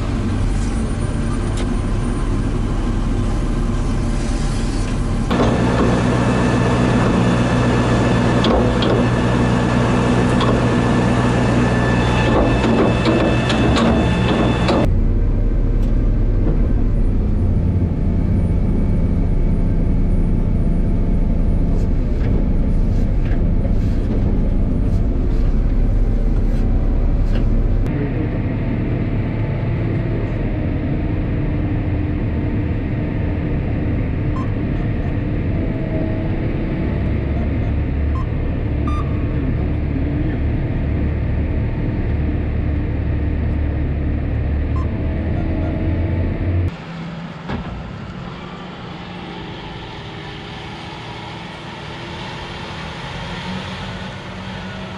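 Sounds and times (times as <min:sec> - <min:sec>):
heavy engine rumbling: 0:00.0 - 0:54.9.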